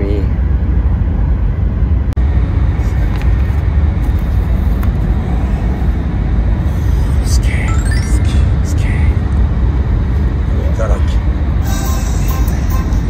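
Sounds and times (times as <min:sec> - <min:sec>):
train cabin low rumble: 0:00.0 - 0:13.0.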